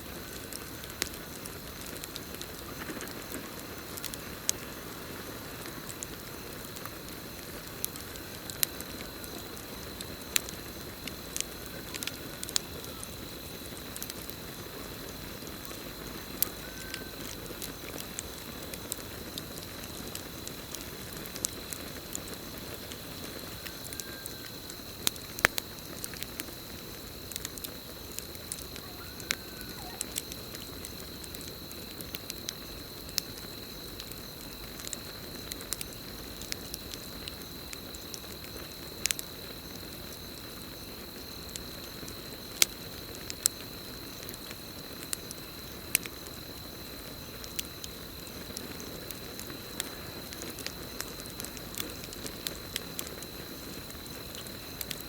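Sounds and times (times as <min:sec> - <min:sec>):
campfire crackling and popping: 0:00.0 - 0:55.0
cricket trill: 0:00.0 - 0:55.0.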